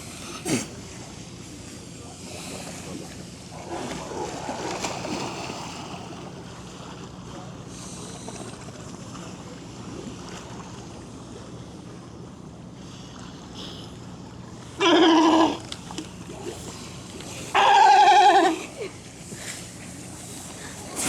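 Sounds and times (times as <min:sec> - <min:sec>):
water: 0:00.0 - 0:21.0
wind: 0:00.0 - 0:21.0.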